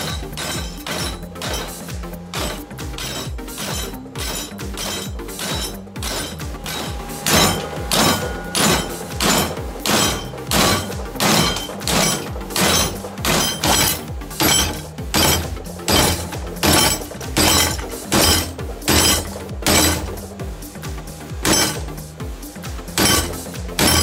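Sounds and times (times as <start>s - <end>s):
hammer striking hot steel: 0.0s - 20.3s, 21.4s - 22.0s, 23.0s - 24.0s.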